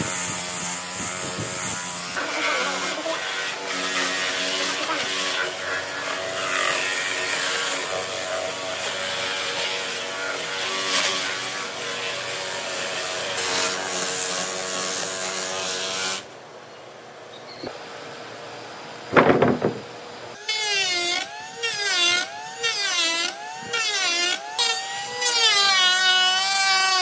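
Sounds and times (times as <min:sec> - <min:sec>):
electric grinder sanding wood: 0:00.0 - 0:16.3, 0:20.4 - 0:27.0.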